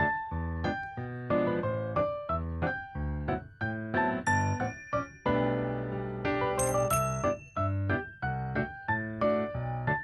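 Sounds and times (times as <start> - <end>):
bouncy piano tune: 0.0 - 10.0.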